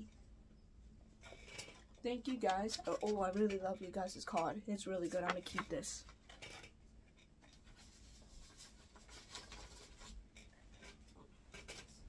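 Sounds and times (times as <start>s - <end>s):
paper rustling and scratching: 1.2s - 6.7s, 7.5s - 12.0s.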